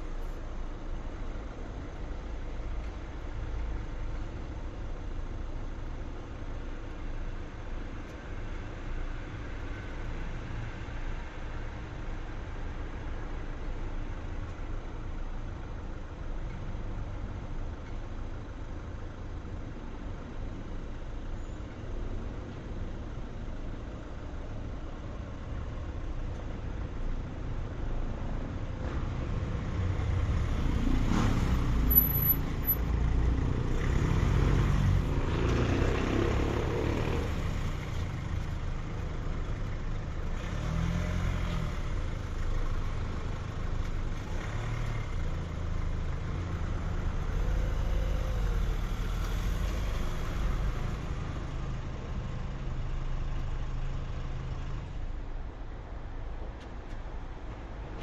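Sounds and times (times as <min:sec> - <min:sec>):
traffic hum: 0:00.0 - 0:58.0.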